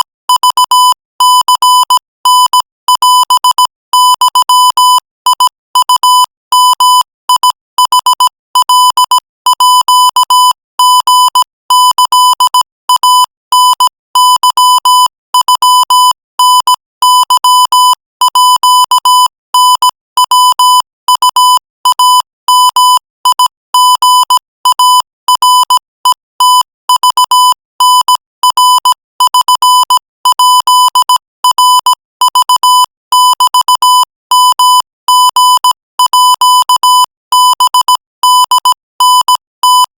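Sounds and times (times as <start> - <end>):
morse code beeps: 0.0 - 18.0, 18.6 - 39.9.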